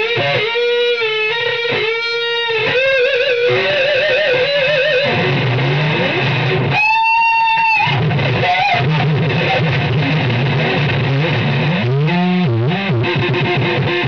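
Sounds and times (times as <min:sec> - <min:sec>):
electric guitar solo: 0:00.0 - 0:14.0.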